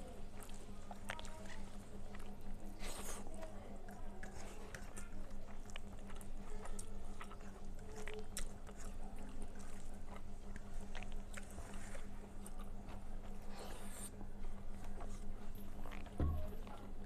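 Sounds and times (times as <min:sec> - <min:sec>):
chewing food: 0:00.0 - 0:17.0
steady low hum: 0:00.0 - 0:17.0.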